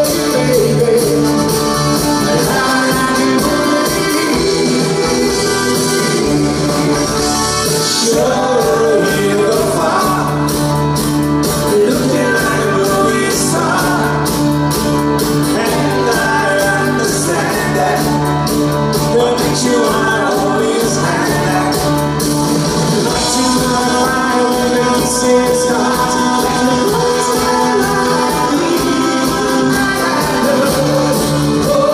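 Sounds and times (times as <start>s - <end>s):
man singing: 0.0s - 14.6s, 15.4s - 31.9s
live pop-rock band playing: 0.0s - 31.9s.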